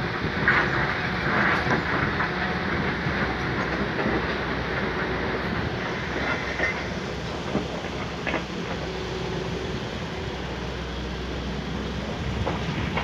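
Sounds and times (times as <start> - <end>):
mechanical rumble and rattle: 0.0 - 13.0.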